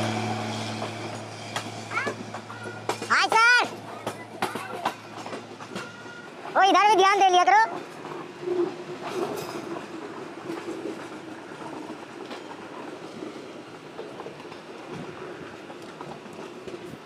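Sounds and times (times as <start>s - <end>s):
train wheels rumbling on rails: 0.0s - 17.0s
wheels clicking over rail joints: 0.0s - 17.0s.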